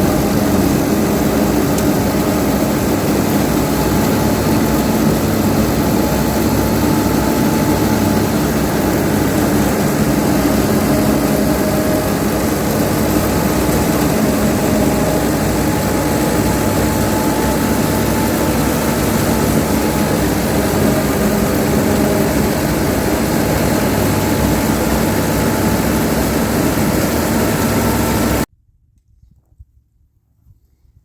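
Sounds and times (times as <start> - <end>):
engine-like drone: 0.0 - 28.5.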